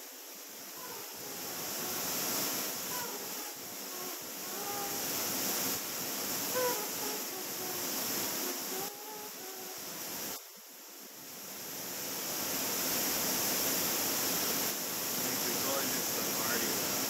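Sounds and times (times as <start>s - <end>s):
ship wake rushing: 0.0s - 10.4s, 11.3s - 17.0s
wind: 0.0s - 17.0s.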